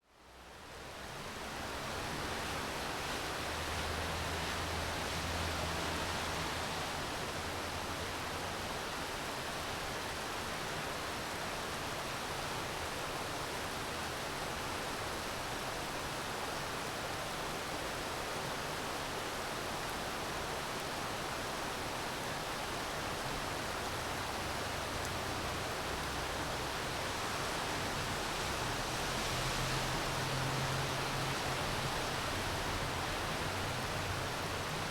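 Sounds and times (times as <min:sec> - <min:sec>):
steady rainfall: 0:00.2 - 0:34.9.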